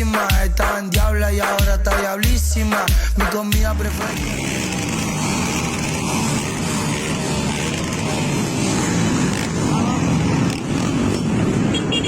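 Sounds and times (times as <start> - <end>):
many motorcycle engines running: 0.0 - 12.0.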